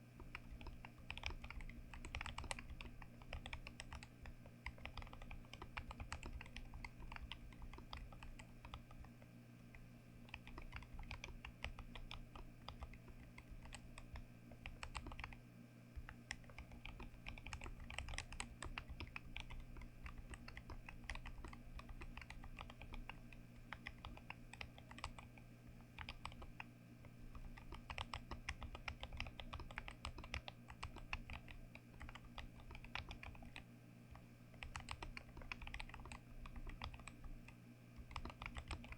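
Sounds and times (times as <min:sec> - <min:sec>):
low steady hum: 0:00.0 - 0:38.9
mechanical keyboard typing: 0:00.2 - 0:09.1, 0:10.2 - 0:15.4, 0:16.0 - 0:38.9.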